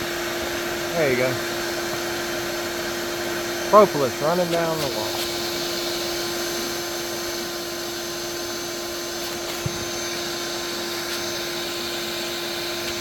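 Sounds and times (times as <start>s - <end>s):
vacuum motor whining: 0.0s - 13.0s.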